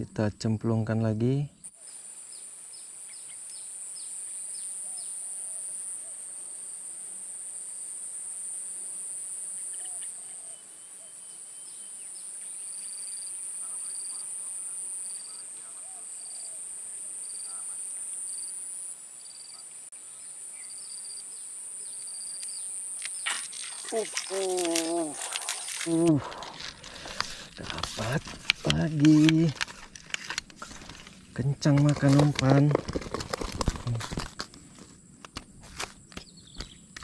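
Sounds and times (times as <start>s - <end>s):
high-pitched insect trilling: 1.7s - 34.0s.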